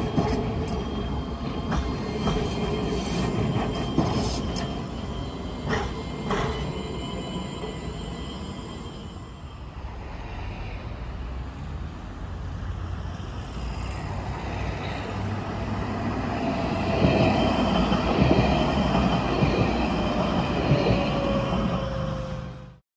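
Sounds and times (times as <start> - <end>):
tram rolling rumble: 0.0 - 22.8.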